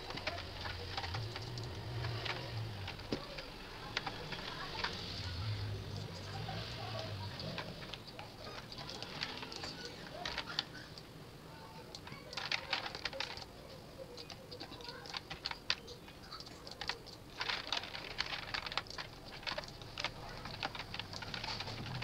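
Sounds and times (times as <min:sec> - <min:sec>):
keyboard and mouse clicks: 0:00.0 - 0:11.1, 0:11.8 - 0:22.0.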